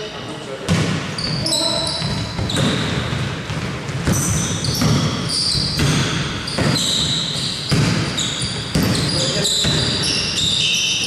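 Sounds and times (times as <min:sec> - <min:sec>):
sneaker squeaks: 0:00.0 - 0:11.0
basketball bouncing on floor: 0:00.7 - 0:10.2.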